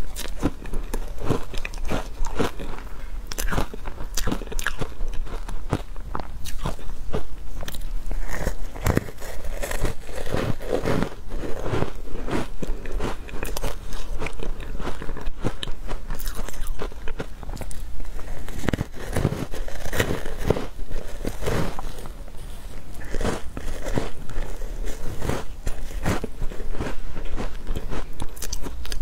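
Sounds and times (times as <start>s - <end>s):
ice crunching between teeth: 0.0s - 29.0s.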